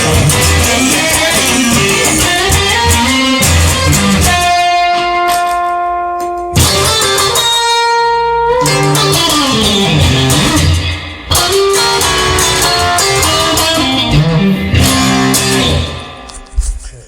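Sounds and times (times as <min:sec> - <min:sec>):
electric guitar music: 0:00.0 - 0:16.6.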